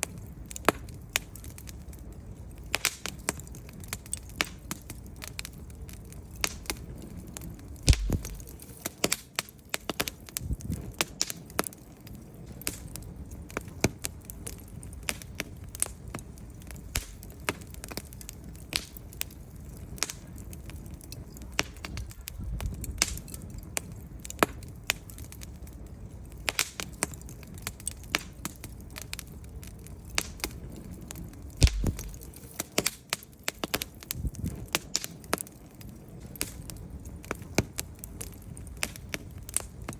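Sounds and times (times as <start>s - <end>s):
loud fire pops: 0.0s - 39.9s
low rumble of flames: 0.0s - 39.9s
wood fire crackling: 0.0s - 39.9s.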